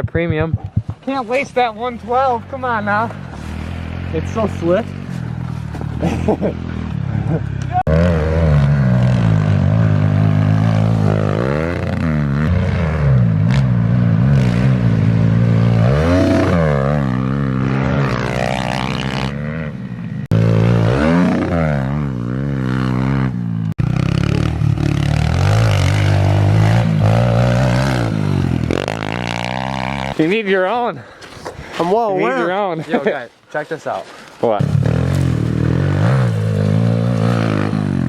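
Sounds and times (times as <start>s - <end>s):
pit bike engine revving: 0.8s - 31.0s, 34.6s - 38.0s.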